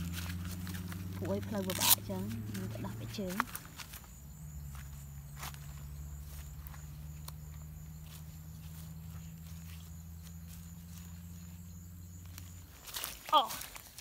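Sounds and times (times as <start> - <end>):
bare feet in wet mud: 0.0 - 11.6, 12.2 - 14.0.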